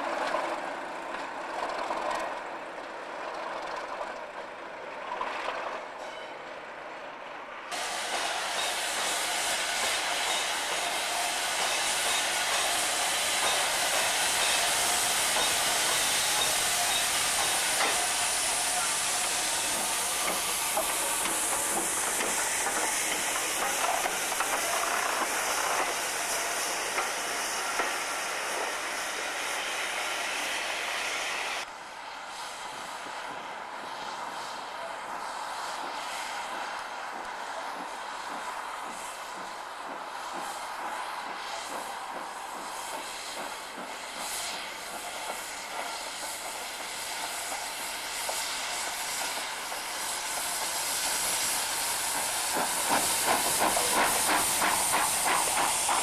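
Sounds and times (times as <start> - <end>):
diesel locomotive running: 0.0 - 56.0
train coaches rolling by: 0.0 - 56.0
steam locomotive hissing: 7.7 - 56.0.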